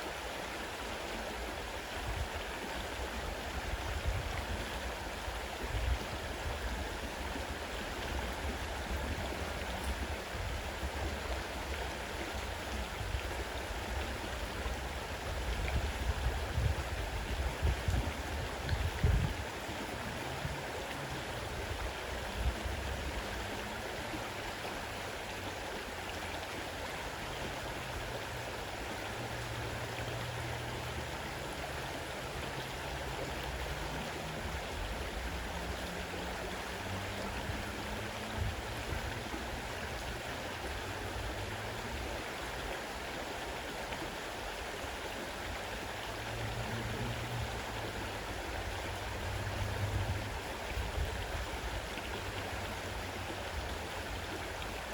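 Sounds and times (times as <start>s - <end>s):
fast-running river: 0.0s - 54.9s.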